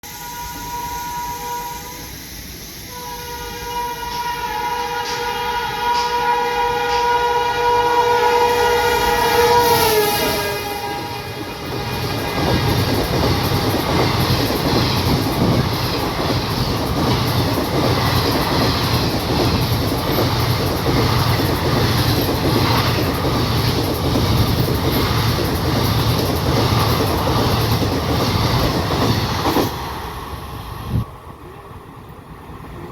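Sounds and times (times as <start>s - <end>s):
train passing at speed: 0.0s - 32.9s.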